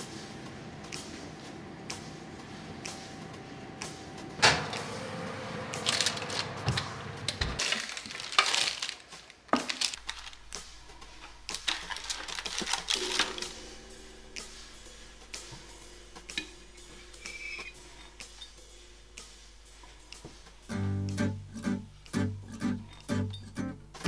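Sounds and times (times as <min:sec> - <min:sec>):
low steady hum: 0:00.0 - 0:08.9, 0:09.8 - 0:24.0.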